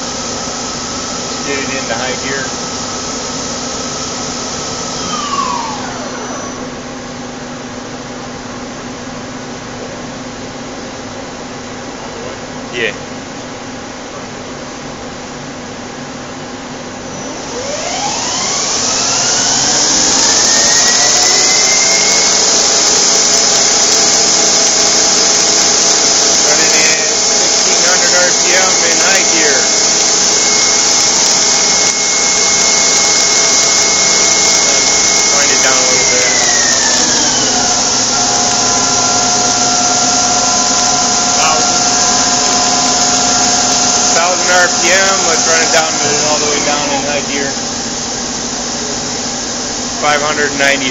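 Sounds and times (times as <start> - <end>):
lathe spindle whine: 0.0 - 7.9, 16.8 - 50.9.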